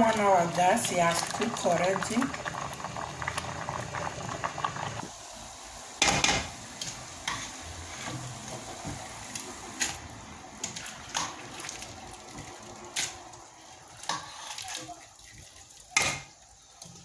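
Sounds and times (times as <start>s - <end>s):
faint bubbling hiss: 0.0s - 17.0s.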